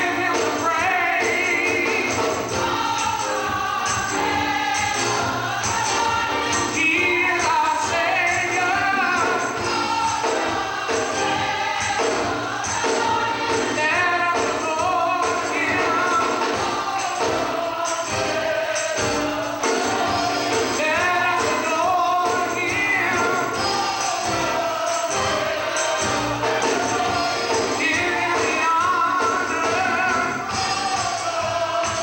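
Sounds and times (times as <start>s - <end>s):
gospel choir singing: 0.0s - 32.0s
musical accompaniment: 0.0s - 32.0s.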